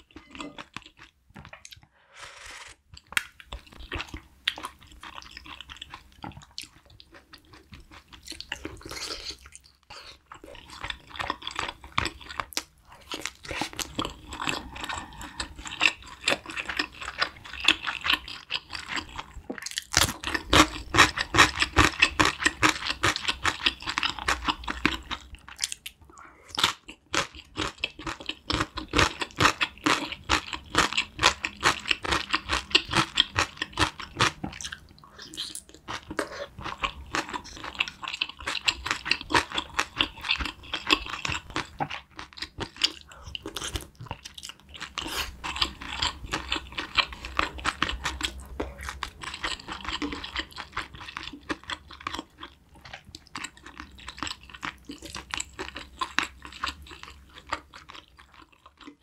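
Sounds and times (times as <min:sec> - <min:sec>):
wet chewing: 0:03.0 - 0:59.0.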